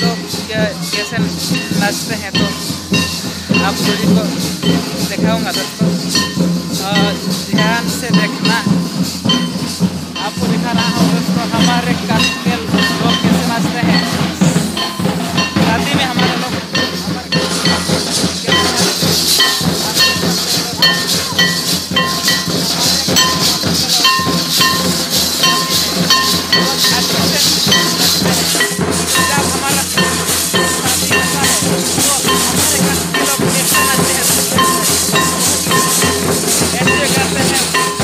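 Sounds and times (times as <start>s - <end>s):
metal barrel drums beating: 0.0s - 38.0s.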